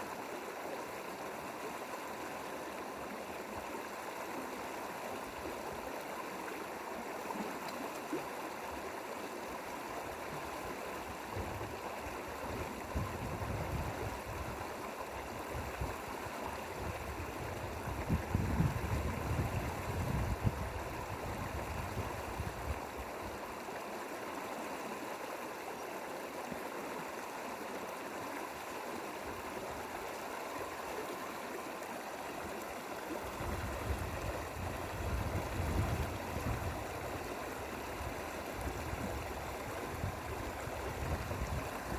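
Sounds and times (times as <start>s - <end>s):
stream flowing over rocks: 0.0s - 41.9s.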